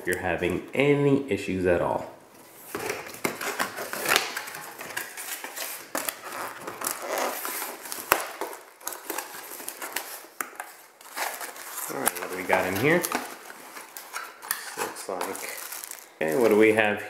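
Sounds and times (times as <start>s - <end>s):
cardboard scraping and rustling: 2.5s - 16.6s.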